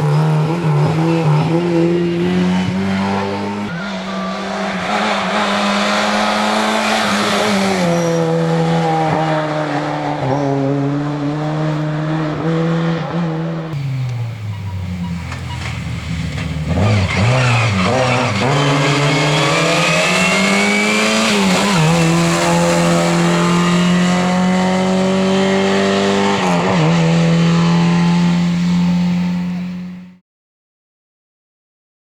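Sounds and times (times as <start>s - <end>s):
rally car engine revving: 0.0s - 30.2s.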